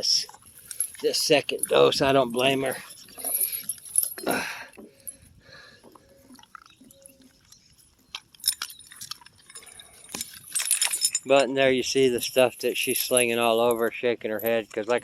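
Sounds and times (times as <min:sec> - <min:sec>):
dog chain and collar jingling: 0:00.6 - 0:05.3, 0:06.6 - 0:14.6.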